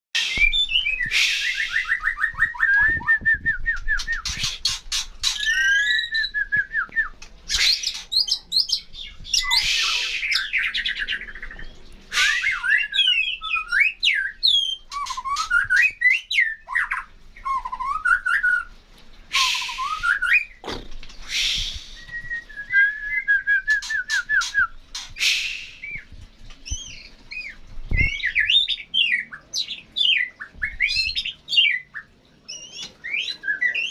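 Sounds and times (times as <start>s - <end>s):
songbird singing trills and whistles: 0.2s - 18.7s, 19.3s - 33.9s.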